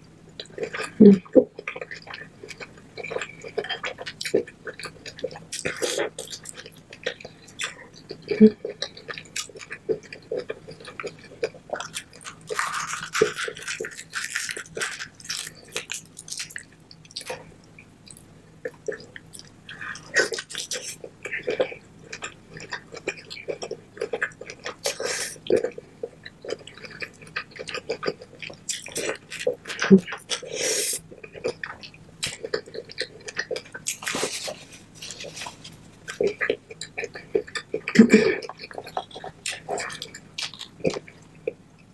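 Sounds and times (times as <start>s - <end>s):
wet chewing and smacking: 0.4s - 41.7s.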